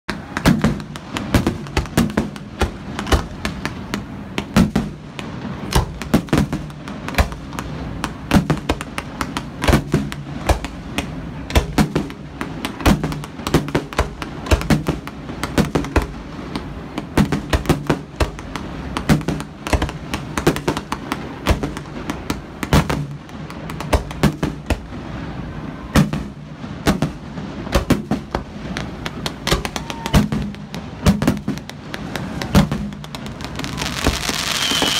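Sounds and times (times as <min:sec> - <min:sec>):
fireworks bangs and crackles: 0:00.1 - 0:34.9
loud fireworks booms: 0:00.1 - 0:34.9.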